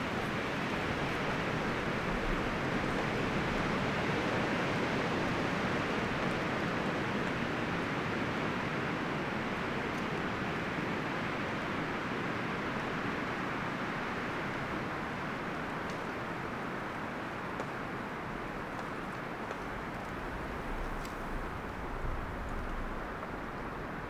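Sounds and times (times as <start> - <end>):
wind rustling forest trees: 0.0 - 24.0.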